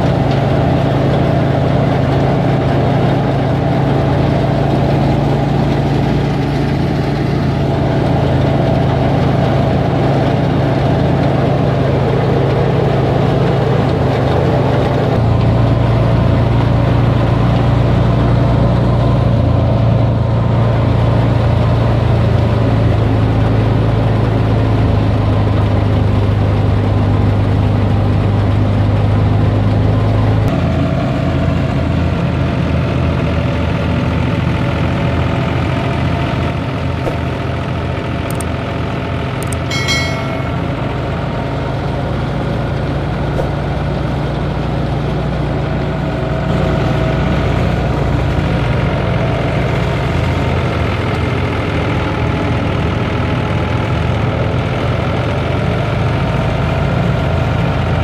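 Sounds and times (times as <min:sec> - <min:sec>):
tractor engine and thresher drone: 0:00.0 - 0:58.0.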